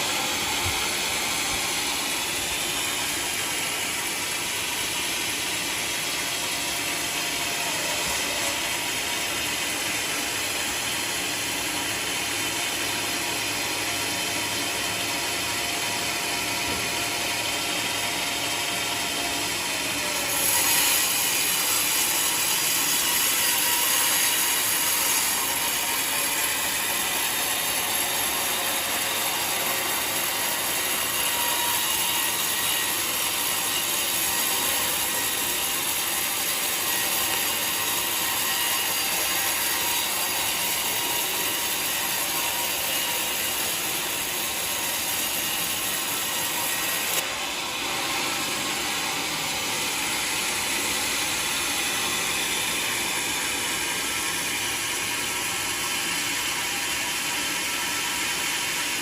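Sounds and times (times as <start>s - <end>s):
sawmill cutting log: 0.0s - 59.0s.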